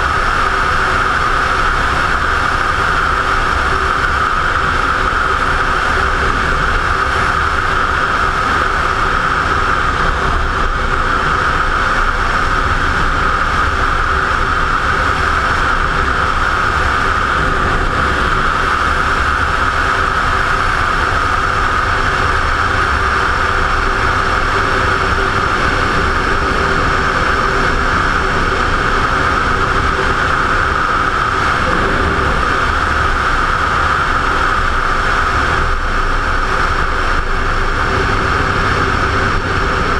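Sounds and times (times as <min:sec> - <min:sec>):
motorcycle engine cruising: 0:00.0 - 0:39.9
wind rushing: 0:03.1 - 0:39.9.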